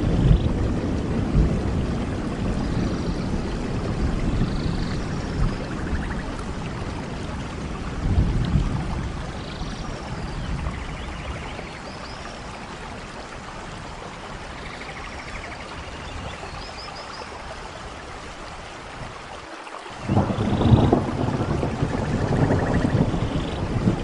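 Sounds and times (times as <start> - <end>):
low rumble of thunder: 0.0 - 16.7, 20.0 - 24.0
steady rain falling: 0.0 - 24.0.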